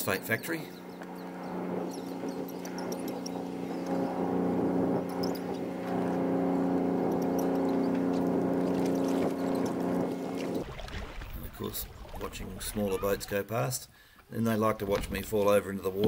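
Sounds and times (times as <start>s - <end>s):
boat engine droning: 0.0s - 13.7s.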